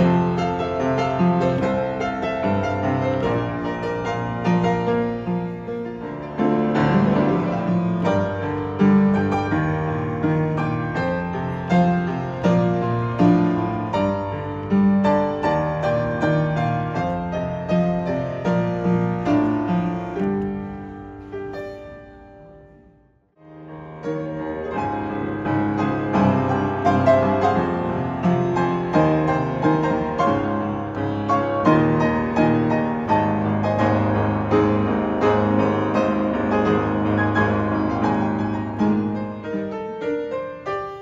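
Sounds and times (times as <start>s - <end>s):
upright piano playing pop ballad: 0.0s - 22.8s, 23.6s - 41.0s.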